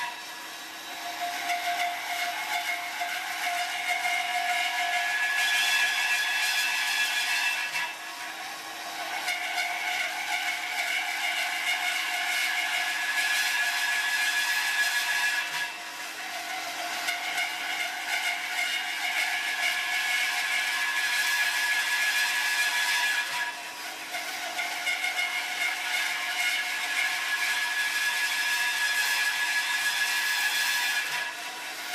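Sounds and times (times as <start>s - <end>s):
drilling machine whining: 0.0s - 31.9s
hiss and scraping clatter: 0.0s - 31.9s.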